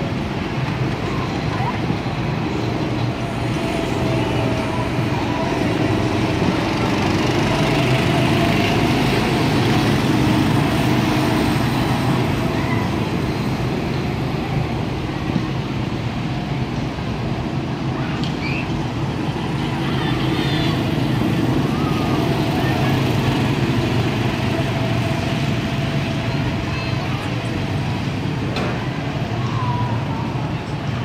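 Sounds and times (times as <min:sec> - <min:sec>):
go-kart engines droning: 0:00.0 - 0:31.0.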